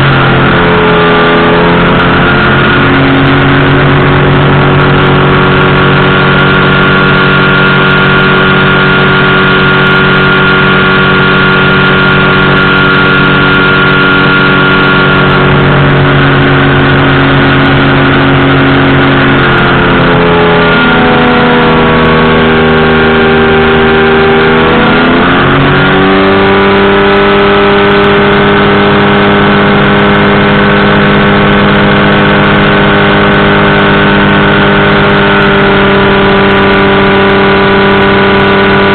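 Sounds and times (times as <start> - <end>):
engine and propeller running: 0.0 - 38.9.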